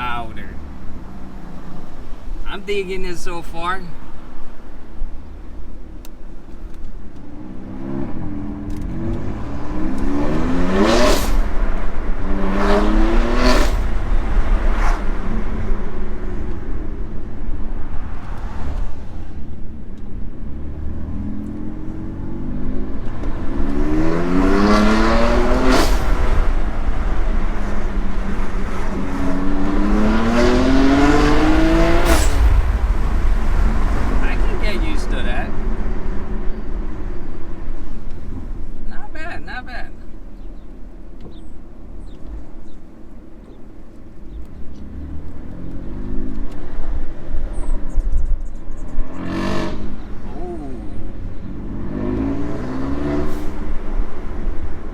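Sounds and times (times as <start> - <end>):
car engine accelerating hard: 5.2 - 54.9.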